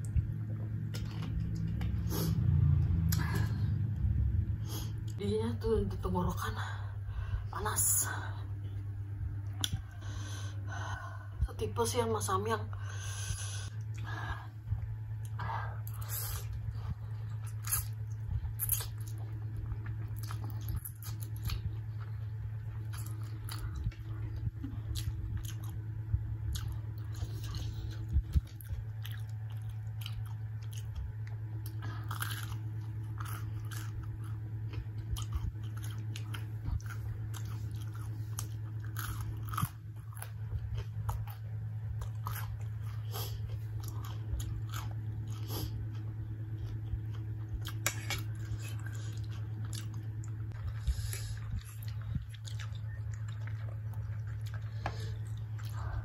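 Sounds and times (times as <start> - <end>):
chewing and crunching: 0.0 - 3.6, 13.2 - 56.0
low hum: 0.0 - 56.0.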